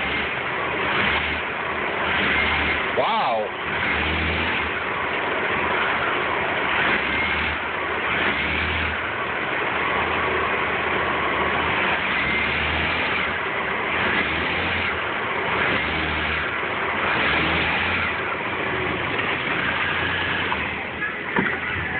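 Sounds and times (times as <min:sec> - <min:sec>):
car engine revving in blips: 0:00.0 - 0:21.9.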